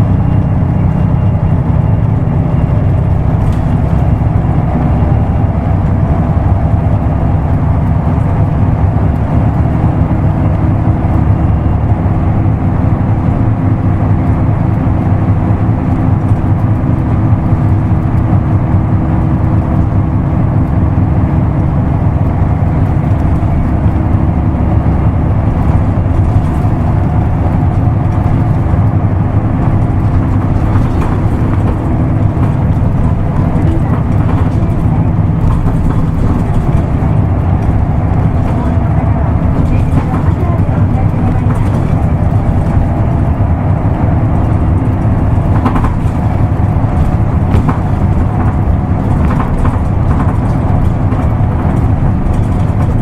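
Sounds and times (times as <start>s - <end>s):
bus engine drone: 0.0s - 53.0s
road rumble: 0.0s - 53.0s.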